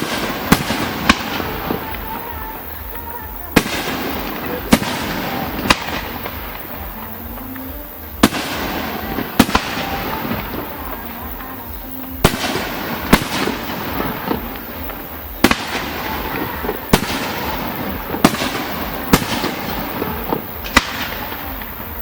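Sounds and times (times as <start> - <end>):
firework bangs: 0.0 - 22.0
firework crackle and rumble: 0.0 - 22.0.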